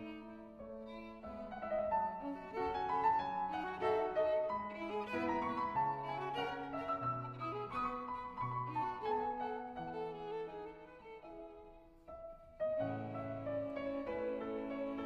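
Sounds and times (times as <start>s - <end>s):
violin and piano music: 0.0s - 15.0s.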